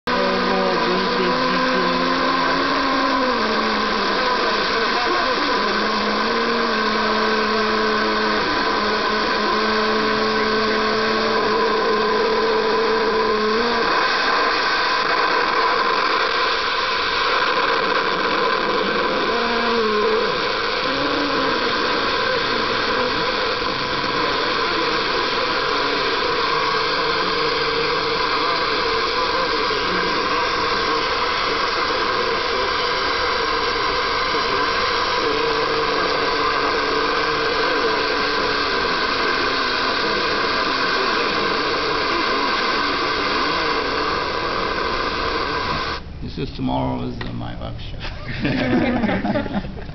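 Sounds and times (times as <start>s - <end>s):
radio static hiss: 0.0s - 49.9s.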